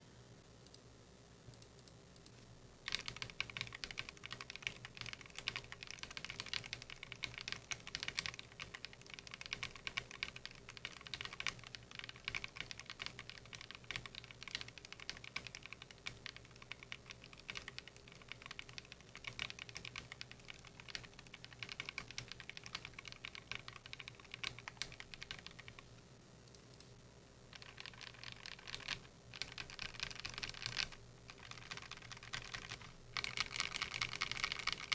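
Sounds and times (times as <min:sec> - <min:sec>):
fast typing on mechanical keyboard: 0:02.9 - 0:25.8, 0:27.5 - 0:34.9.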